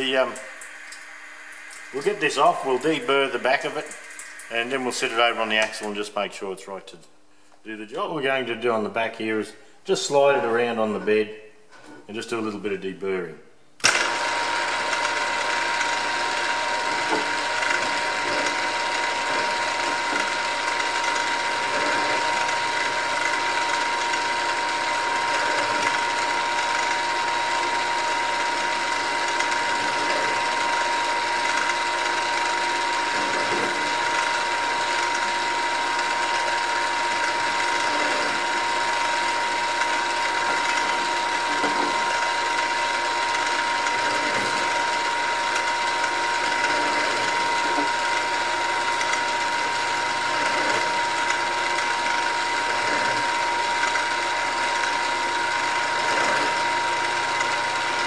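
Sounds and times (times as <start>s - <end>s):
mill-drill mechanical whine: 0.0s - 5.9s, 13.8s - 58.0s.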